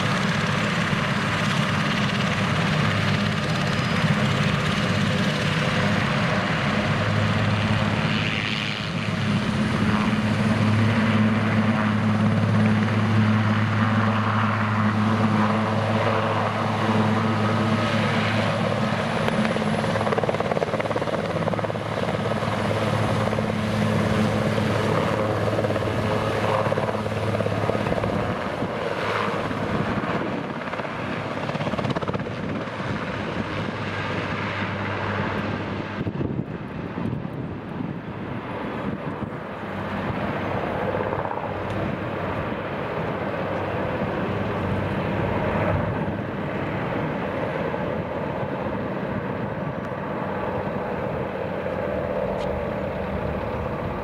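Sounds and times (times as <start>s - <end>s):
helicopter turbines and rotor drone: 0.0s - 54.0s.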